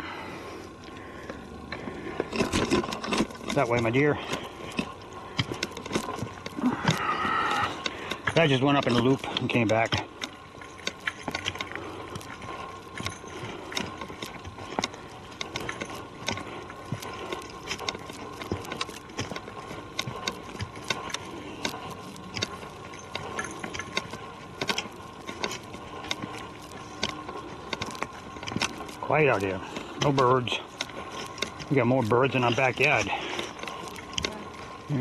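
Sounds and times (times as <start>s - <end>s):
footsteps on forest trail: 0.0s - 35.0s.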